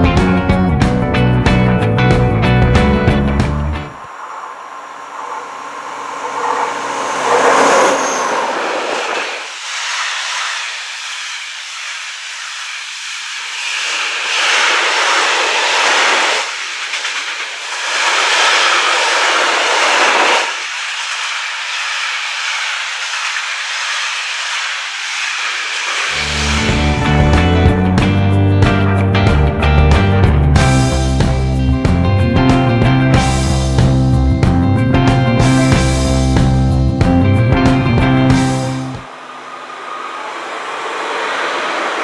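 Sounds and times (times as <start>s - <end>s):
diesel locomotive passing: 0.0s - 42.0s.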